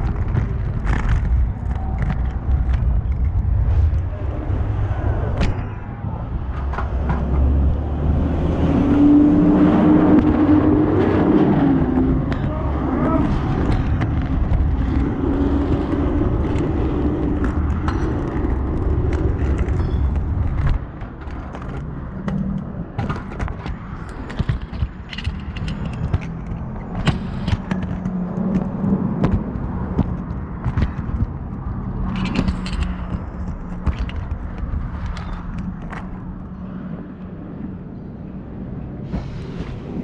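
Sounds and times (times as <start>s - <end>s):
heavy low rumble: 0.0s - 40.0s
street traffic: 0.0s - 40.0s.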